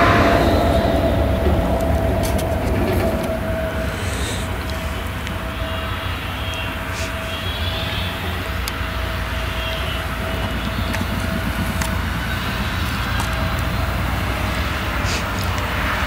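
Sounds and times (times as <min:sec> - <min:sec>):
diesel engine rumble with whine: 0:00.0 - 0:16.0.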